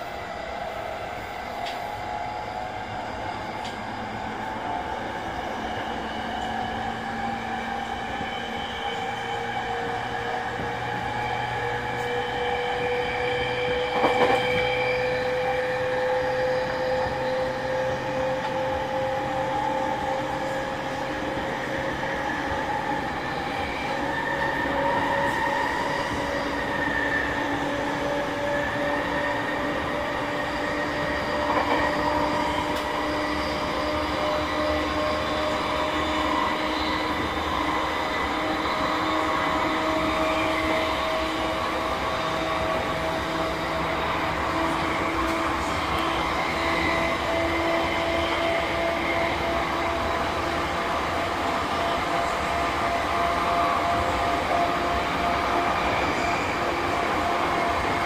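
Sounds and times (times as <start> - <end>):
wheel and rail running noise: 5.6 - 58.0.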